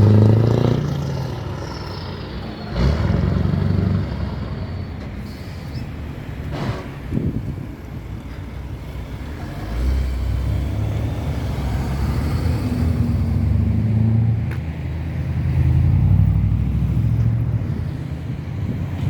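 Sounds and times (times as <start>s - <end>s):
heavy truck engine rumbling: 0.0s - 19.0s.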